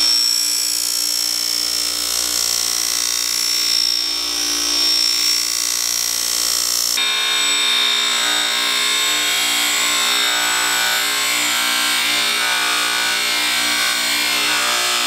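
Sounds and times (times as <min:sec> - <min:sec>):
bench buffer motor whine: 0:00.0 - 0:15.0.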